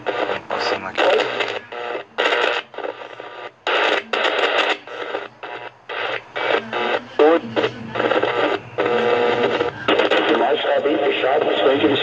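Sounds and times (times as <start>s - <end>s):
radio static: 0.0s - 12.0s
radio tuning between stations: 0.0s - 12.0s.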